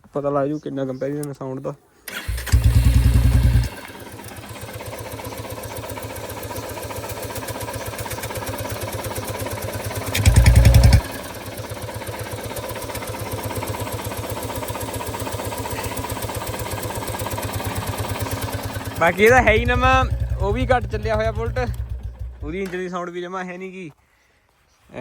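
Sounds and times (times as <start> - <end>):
motorcycle engine idling: 2.1 - 23.0.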